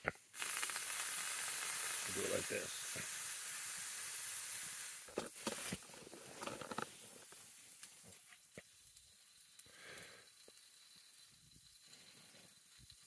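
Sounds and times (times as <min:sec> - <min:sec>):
hot pan sizzling: 0:00.0 - 0:13.0.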